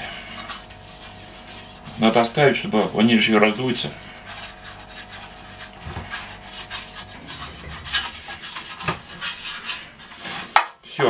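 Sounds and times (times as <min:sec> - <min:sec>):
pastry brush rubbing metal tray: 0:00.0 - 0:11.0.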